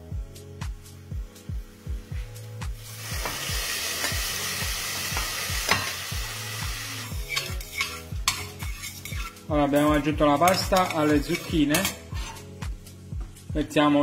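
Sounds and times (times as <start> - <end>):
background music with beat: 0.0 - 14.0
pan sizzling: 1.4 - 13.5.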